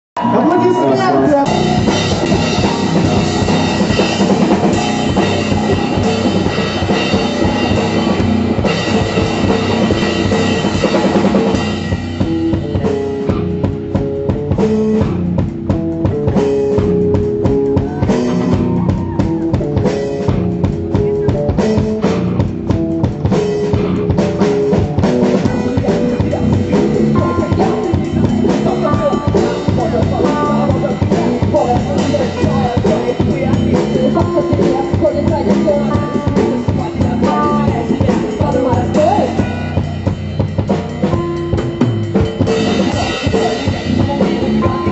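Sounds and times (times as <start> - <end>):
drum kit with cymbals: 0.2 - 44.9
electric guitar: 0.2 - 44.9.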